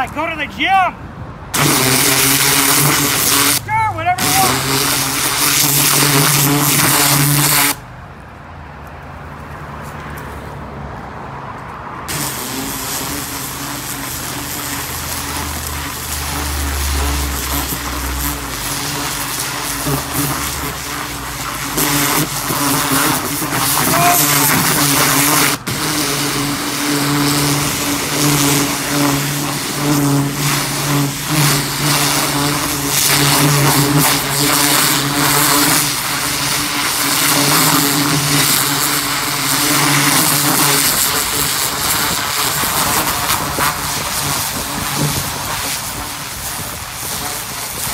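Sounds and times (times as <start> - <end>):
high-pressure jet hissing into soil: 1.5 - 7.9, 12.1 - 47.9
pressure washer engine running: 1.5 - 7.9, 12.1 - 47.9.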